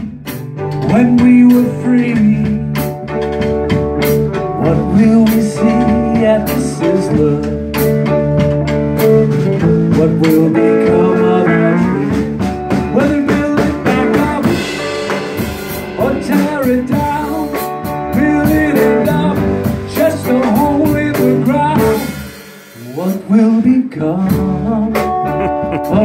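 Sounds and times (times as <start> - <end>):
man singing: 0.0 - 3.1, 4.4 - 8.2, 9.6 - 26.0
drum kit beat: 0.0 - 26.0
guitar: 0.0 - 26.0.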